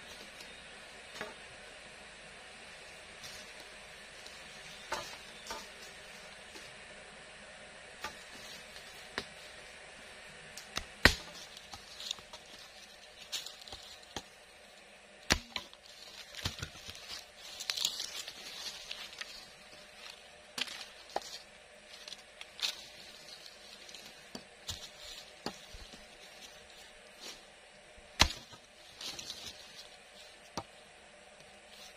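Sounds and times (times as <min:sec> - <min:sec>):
dry leaves rustling: 0:02.6 - 0:06.8, 0:08.0 - 0:10.1, 0:11.0 - 0:30.5.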